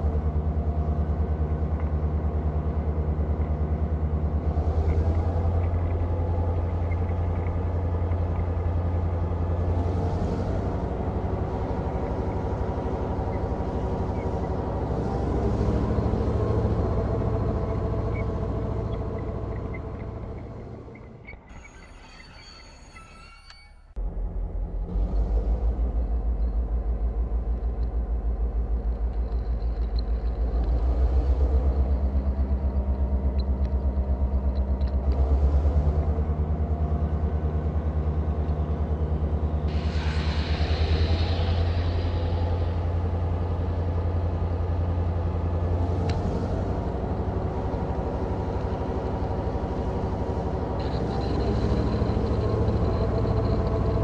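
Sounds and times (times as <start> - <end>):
railcar low droning: 0.0 - 54.0.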